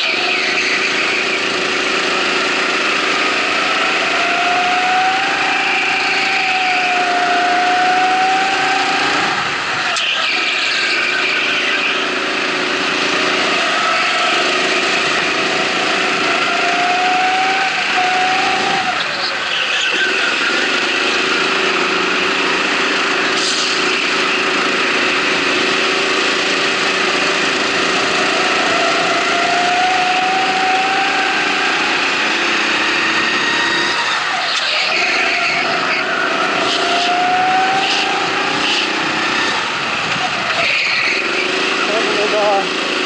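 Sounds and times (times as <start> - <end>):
kart motor running at speed: 0.0 - 43.0.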